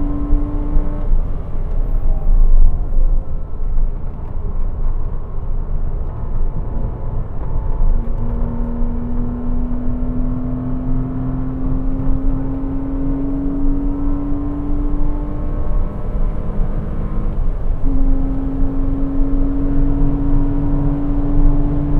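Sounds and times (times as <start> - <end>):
car engine running hard: 0.0 - 21.9
road and wind rumble: 0.0 - 21.9.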